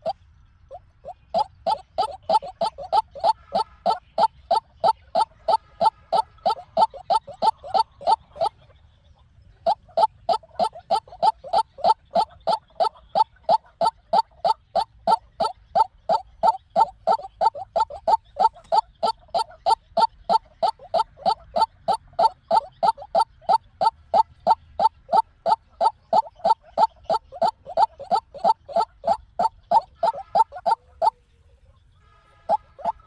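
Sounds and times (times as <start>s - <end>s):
waterhen calling: 0.0s - 8.7s, 9.6s - 31.2s, 32.2s - 33.0s.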